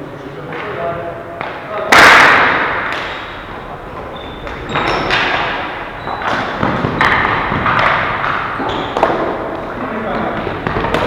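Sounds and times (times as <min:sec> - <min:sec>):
hockey sticks and ball knocking: 0:01.4 - 0:11.0.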